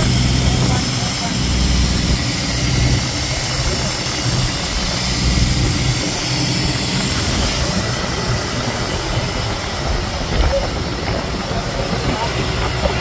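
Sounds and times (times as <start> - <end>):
boat engine rumble: 0.0 - 13.0
wind and water hiss: 0.0 - 13.0.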